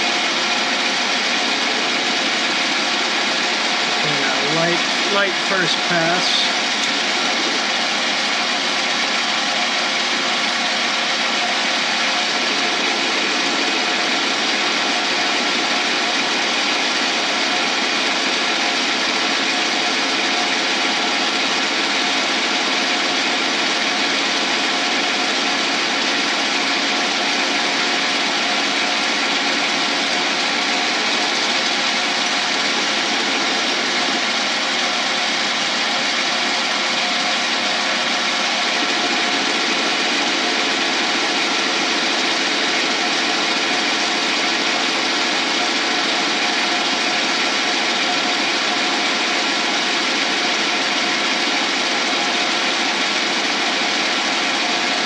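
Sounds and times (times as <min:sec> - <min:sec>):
lathe running: 0:00.0 - 0:55.0.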